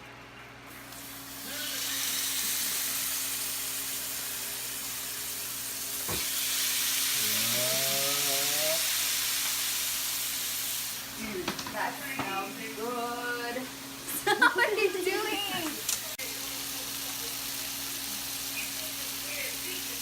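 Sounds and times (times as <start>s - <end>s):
food sizzling in a pan: 0.8s - 20.0s.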